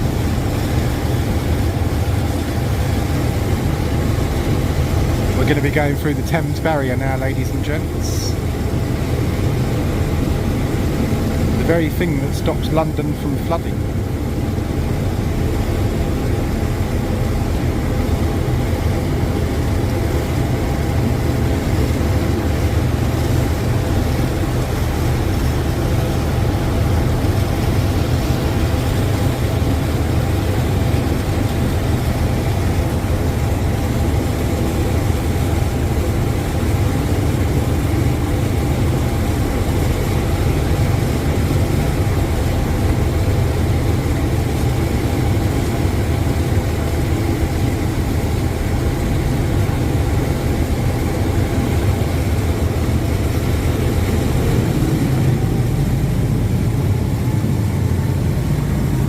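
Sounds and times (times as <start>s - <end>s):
boat engines droning: 0.0s - 59.0s.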